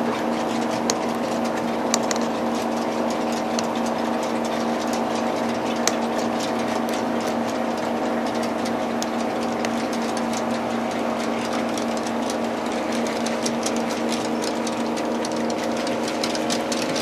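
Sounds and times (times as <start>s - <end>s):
model train mechanical hum: 0.0s - 17.0s.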